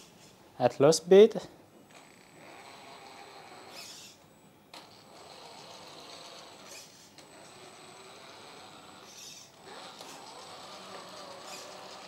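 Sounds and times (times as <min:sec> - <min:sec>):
toy truck motor whining: 0:01.9 - 0:12.0.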